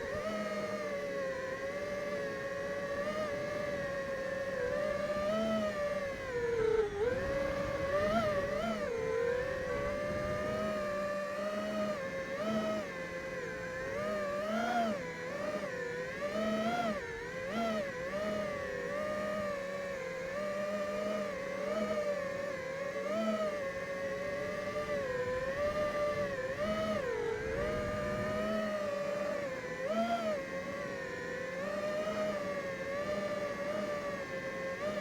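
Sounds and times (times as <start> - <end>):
drone propellers whining: 0.0 - 35.0.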